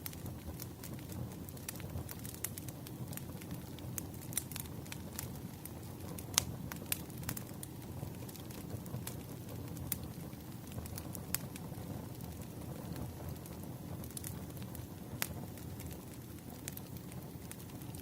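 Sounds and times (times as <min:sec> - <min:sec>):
crackles and pops of logs: 0:00.0 - 0:18.0
wood fire low rumble: 0:00.0 - 0:18.0.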